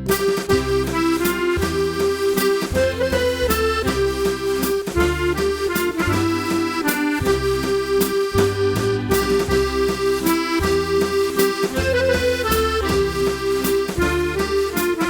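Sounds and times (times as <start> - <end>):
accordion waltz: 0.0 - 15.0.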